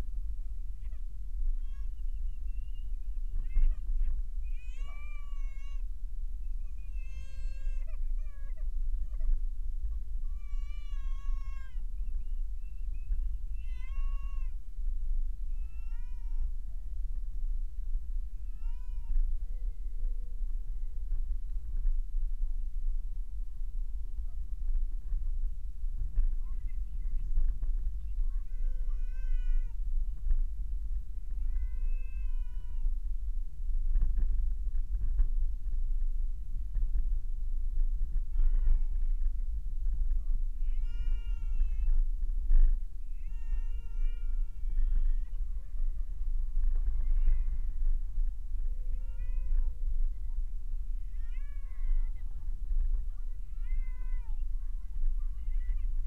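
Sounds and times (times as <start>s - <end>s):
car driving low rumble: 0.0s - 56.0s.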